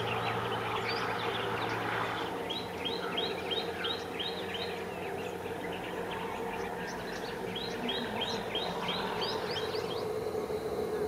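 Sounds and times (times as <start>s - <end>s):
small bird chirping: 0.0s - 10.1s
steady low drone: 0.0s - 11.0s.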